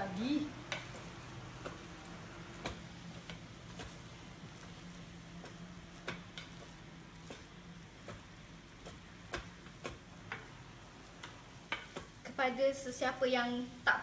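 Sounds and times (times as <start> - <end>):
paddle stirring rice in pot: 0.0 - 12.2.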